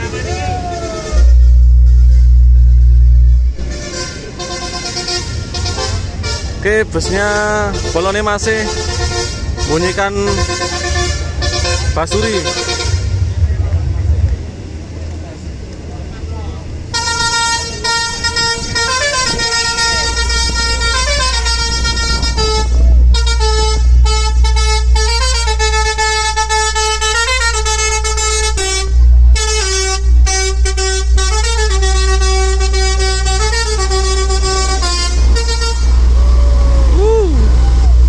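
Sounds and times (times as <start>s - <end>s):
bus musical air horn: 0.0s - 13.4s, 16.8s - 38.0s
deep steady low hum: 0.6s - 6.2s, 10.2s - 38.0s.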